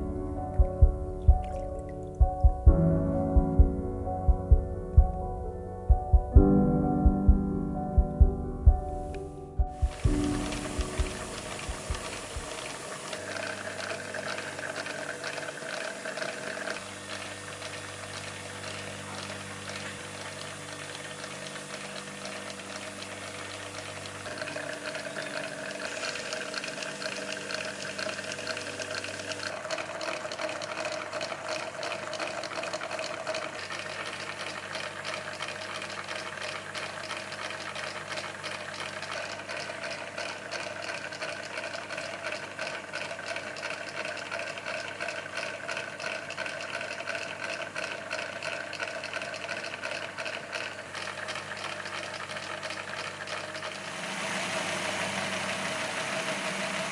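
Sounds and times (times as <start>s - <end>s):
model engines humming and clattering: 9.9s - 56.9s.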